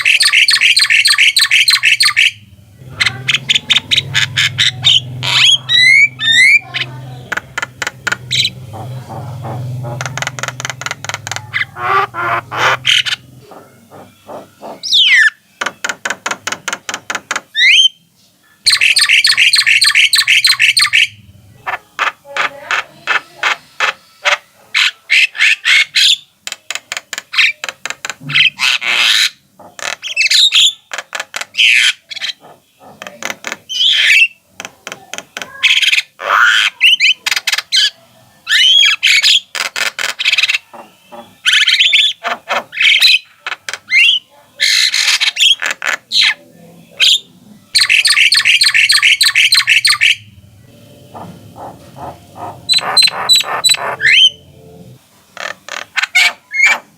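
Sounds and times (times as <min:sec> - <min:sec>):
myna bird singing: 0:00.0 - 0:56.9.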